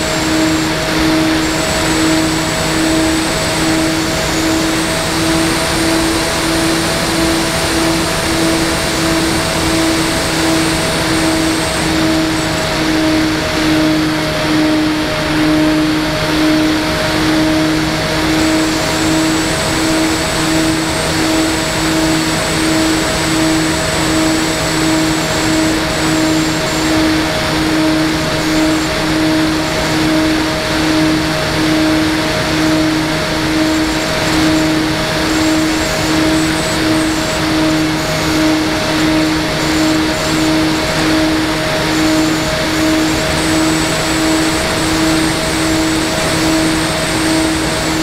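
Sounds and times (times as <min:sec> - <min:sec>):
faint high whine: 0:00.0 - 0:48.0
model plane motors humming: 0:00.0 - 0:48.0.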